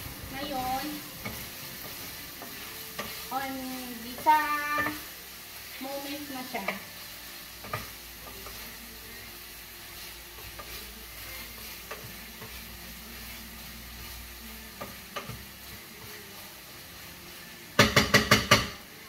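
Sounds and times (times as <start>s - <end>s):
wooden spoon stirring: 0.0s - 17.1s
food sizzling in a frying pan: 0.0s - 19.0s.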